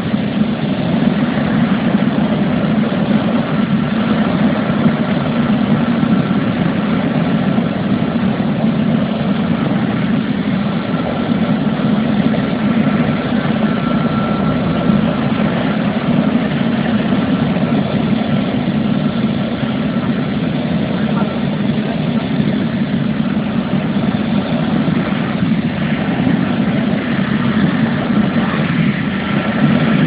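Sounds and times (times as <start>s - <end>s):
helicopter turbine and rotor drone: 0.0s - 30.0s.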